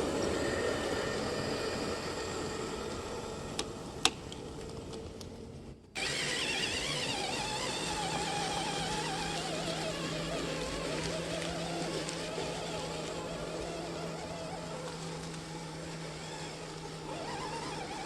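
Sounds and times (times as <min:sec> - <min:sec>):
electric motor and drivetrain running: 0:00.0 - 0:18.0.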